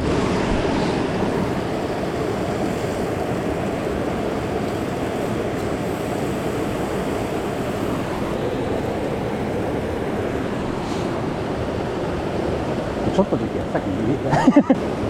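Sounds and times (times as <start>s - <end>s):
mountain stream water rushing: 0.0s - 15.0s.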